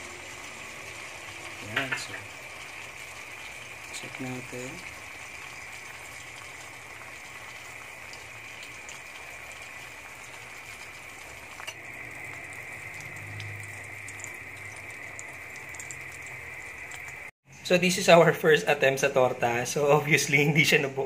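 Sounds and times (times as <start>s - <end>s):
egg mixture sizzling in pan: 0.0s - 17.4s.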